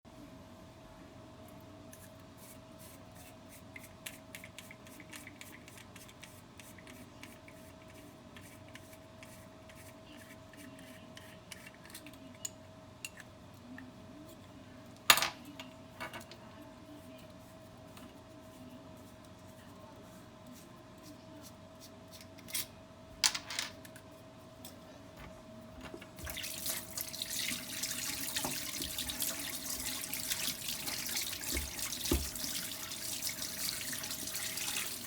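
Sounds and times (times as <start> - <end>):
faint steady hum: 0.1 - 35.0.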